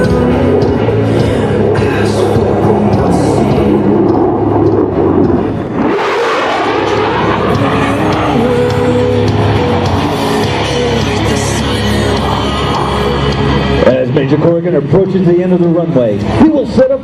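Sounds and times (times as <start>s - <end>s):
jet engine passing overhead: 0.0s - 17.0s
loudspeaker music: 0.0s - 17.0s.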